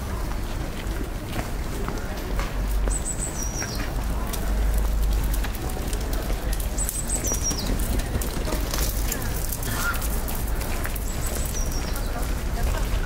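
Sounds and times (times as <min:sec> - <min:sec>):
light footsteps: 0:00.0 - 0:13.0.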